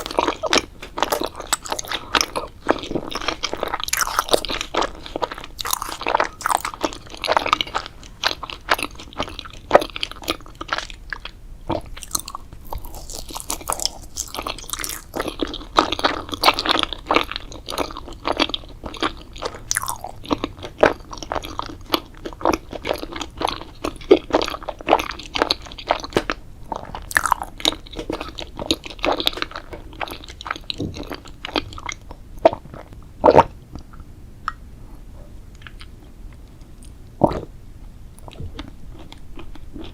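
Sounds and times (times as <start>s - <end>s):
person chewing crunchy food: 0.0s - 34.6s, 38.2s - 39.9s.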